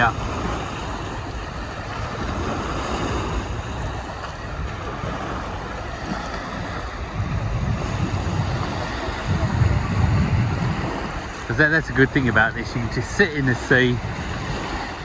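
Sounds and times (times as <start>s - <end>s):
sea waves breaking on sand: 0.0s - 15.0s
wind rumbling on microphone: 0.0s - 15.0s.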